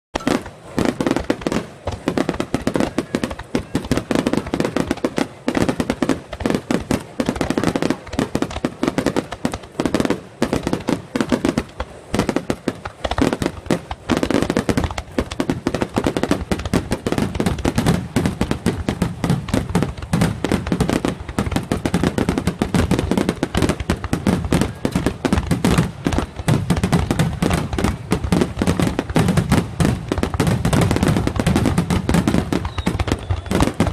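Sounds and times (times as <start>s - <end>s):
deep fireworks booms: 0.2s - 33.9s
fireworks bangs and crackles: 0.2s - 33.9s.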